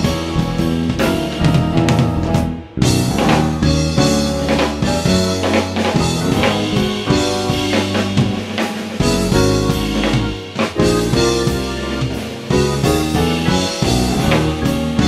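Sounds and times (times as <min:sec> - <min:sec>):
jazz fusion band music: 0:00.0 - 0:15.0.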